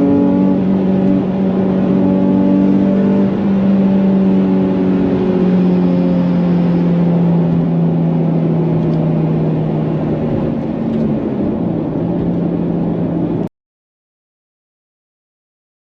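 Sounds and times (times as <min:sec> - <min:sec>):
car engine drone: 0:00.0 - 0:13.5.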